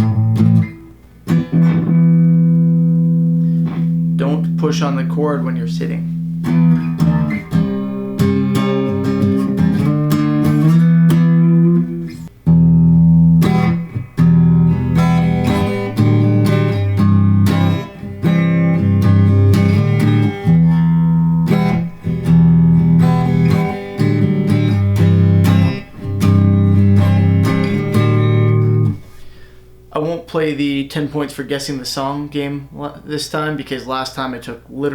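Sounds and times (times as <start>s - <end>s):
electric guitar strummed chords: 0.0s - 30.0s.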